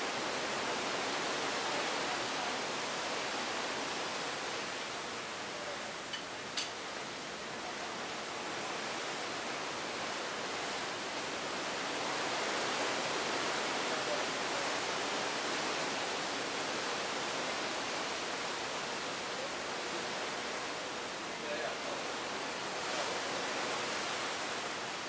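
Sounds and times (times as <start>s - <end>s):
sea water rushing along hull: 0.0s - 25.0s.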